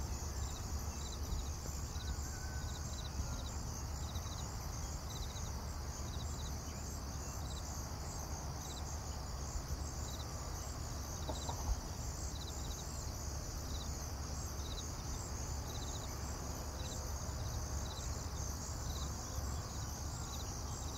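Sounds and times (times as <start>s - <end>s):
cricket chirping: 0.0s - 20.9s
high insect hum: 0.0s - 20.9s.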